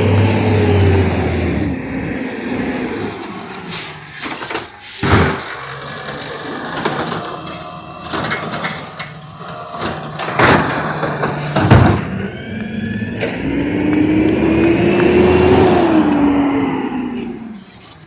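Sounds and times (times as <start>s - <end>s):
garbage truck engine: 0.0s - 18.0s.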